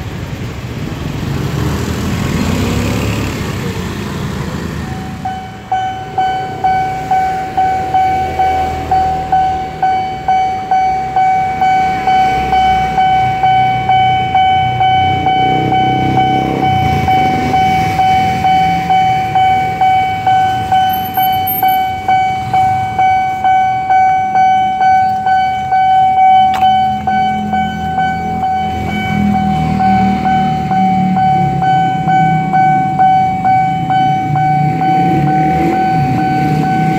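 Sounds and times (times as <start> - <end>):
low engine rumble of traffic: 0.0 - 36.9
level crossing warning bell: 3.4 - 36.9.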